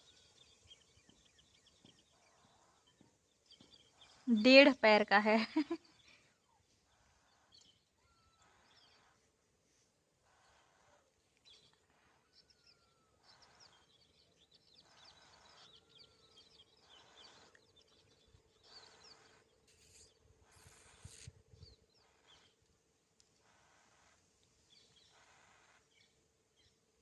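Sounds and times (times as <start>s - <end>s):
birds chirping: 0.0s - 27.0s
faint steady hum: 0.0s - 27.0s.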